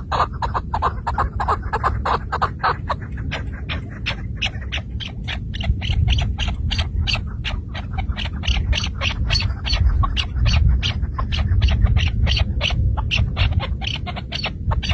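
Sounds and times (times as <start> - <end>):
low rumble: 0.0 - 14.9.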